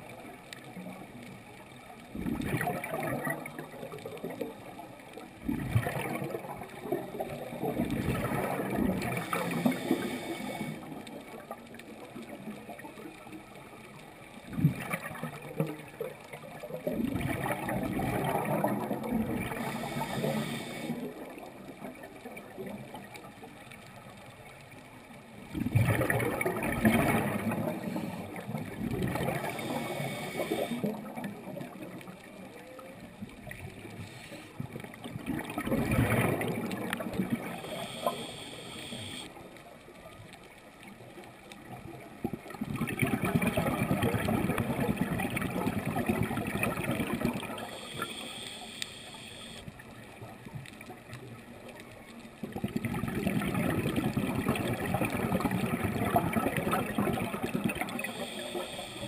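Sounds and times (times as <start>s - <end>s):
water gurgling: 0.0s - 59.0s.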